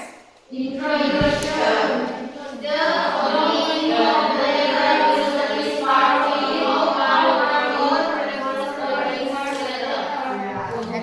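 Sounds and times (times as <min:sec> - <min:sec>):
students reading aloud in unison: 0:00.0 - 0:11.0.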